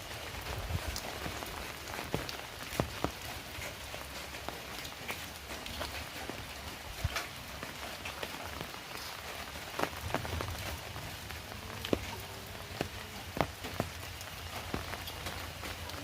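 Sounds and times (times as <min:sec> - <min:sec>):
heavy rain falling: 0:00.0 - 0:16.0
taps of large raindrops: 0:00.0 - 0:16.0.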